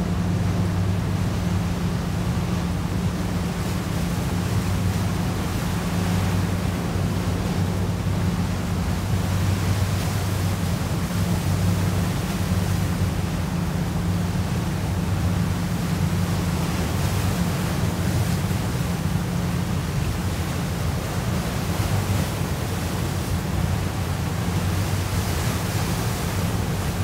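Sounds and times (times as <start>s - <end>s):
ship engine drone: 0.0s - 27.0s
wind: 0.0s - 27.0s.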